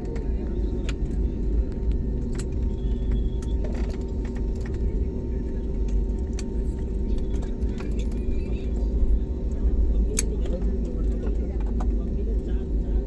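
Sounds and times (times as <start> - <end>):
airliner cabin engine hum: 0.0 - 13.0.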